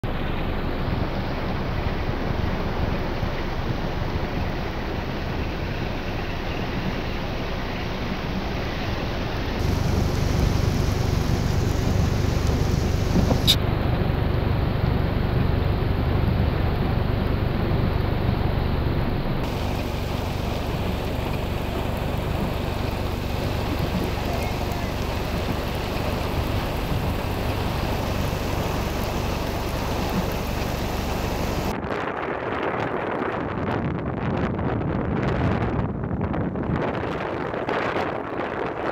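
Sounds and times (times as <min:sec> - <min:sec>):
deep wind rumble: 0:00.0 - 0:38.9
wind and heavy rain rushing: 0:00.0 - 0:38.9
wind buffeting microphone: 0:00.2 - 0:38.9.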